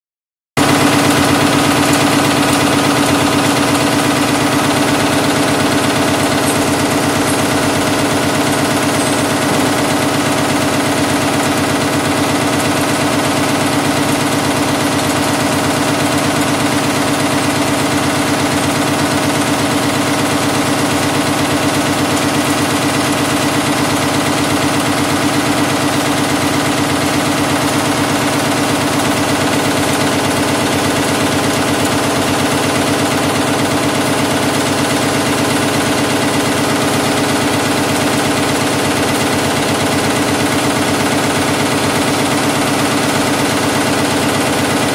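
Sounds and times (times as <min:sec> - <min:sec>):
nail-making machine clattering: 0:00.6 - 0:44.9.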